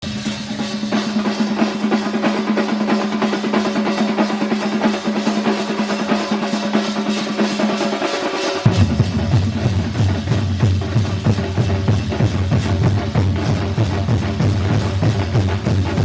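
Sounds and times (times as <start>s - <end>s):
drums beating fast: 0.0s - 16.0s.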